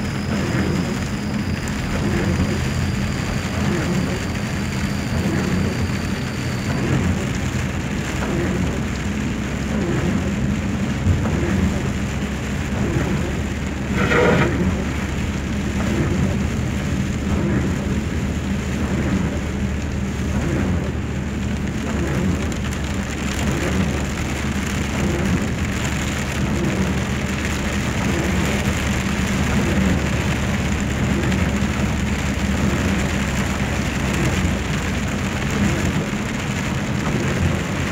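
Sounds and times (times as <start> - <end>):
heavy rain falling: 0.0 - 37.9
low vehicle hum: 0.0 - 37.9.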